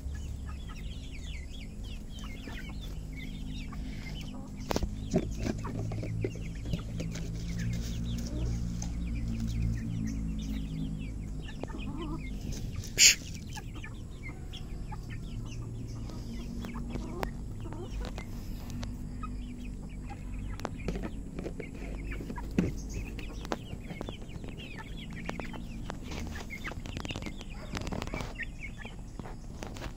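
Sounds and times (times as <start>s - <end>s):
hens clucking: 0.0s - 29.9s.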